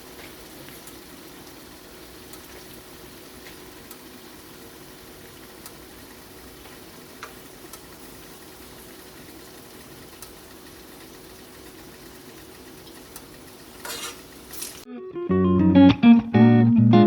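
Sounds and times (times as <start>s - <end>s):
oil popping and crackling: 0.0s - 14.9s
oil sizzling in a frying pan: 0.0s - 14.9s.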